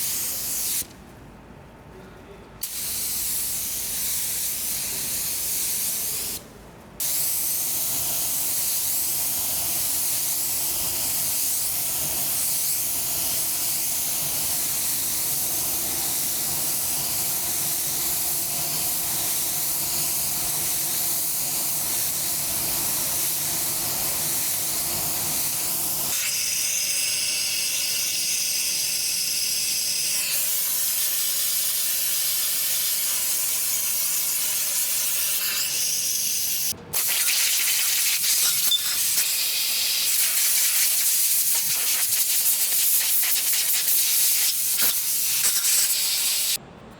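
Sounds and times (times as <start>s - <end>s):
air spray hissing: 0.0s - 0.9s, 2.6s - 6.4s, 7.0s - 46.6s.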